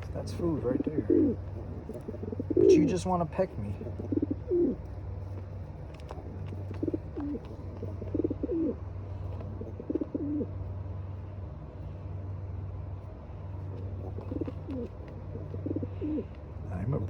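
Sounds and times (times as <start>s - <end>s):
pigeon cooing: 0.0s - 10.8s, 13.5s - 17.0s
steady low hum: 0.0s - 17.0s.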